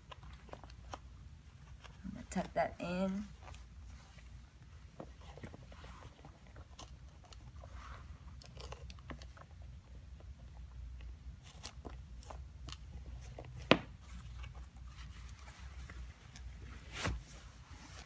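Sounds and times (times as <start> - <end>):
small clicks and crinkles: 0.0 - 16.6.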